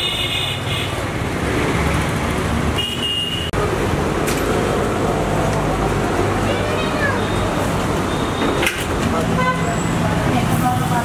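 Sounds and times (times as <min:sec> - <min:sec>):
passing vehicles rumbling: 0:00.0 - 0:11.0.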